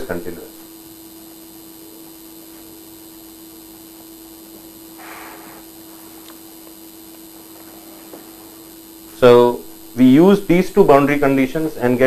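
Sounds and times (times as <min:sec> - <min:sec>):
background hiss: 0:00.0 - 0:12.0
electrical mains hum: 0:00.0 - 0:12.0.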